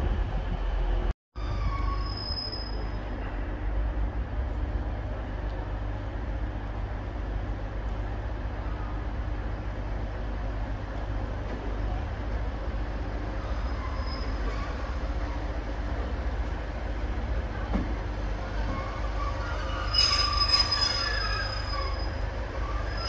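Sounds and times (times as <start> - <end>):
diesel train engines rumbling: 0.0 - 23.0.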